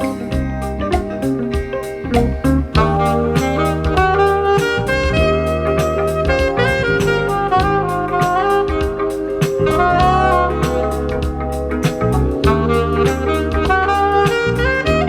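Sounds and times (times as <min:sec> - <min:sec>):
bass line: 0:00.0 - 0:15.0
drums: 0:00.0 - 0:15.0
saxophone melody: 0:00.0 - 0:15.0
smooth jazz from a record: 0:00.0 - 0:15.0.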